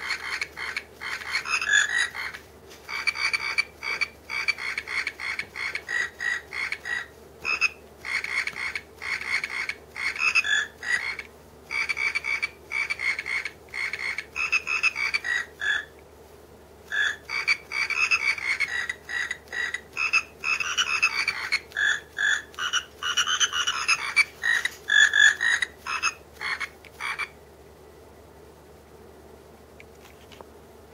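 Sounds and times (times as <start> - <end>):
toy puppet croaking melody: 0.0 - 15.9, 16.9 - 27.3.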